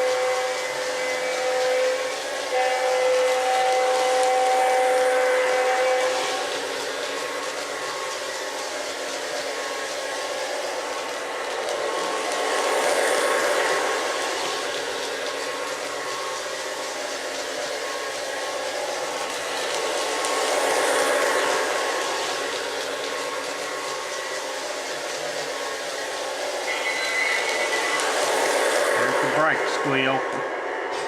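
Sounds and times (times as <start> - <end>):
model train motor whirring: 0.0 - 31.0.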